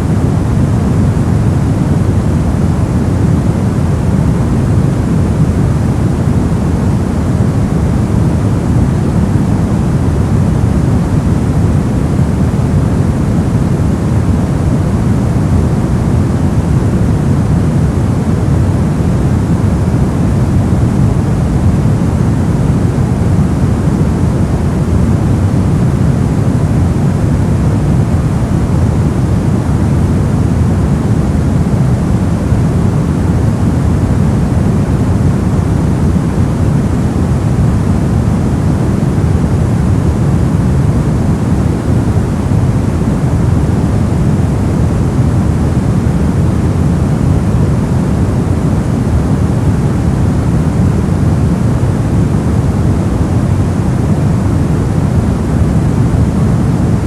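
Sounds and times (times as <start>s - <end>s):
deep rushing white noise: 0.0s - 57.0s.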